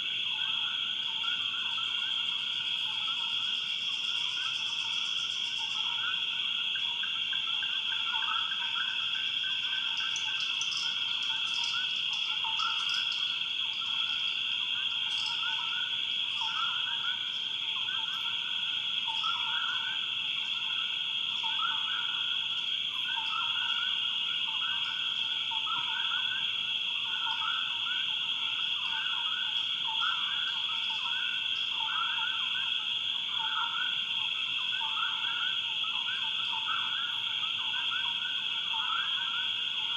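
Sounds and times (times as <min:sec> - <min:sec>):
faint ticks and chirps: 0:00.0 - 0:39.9
frogs calling: 0:00.0 - 0:39.9
high insect drone: 0:00.0 - 0:39.9.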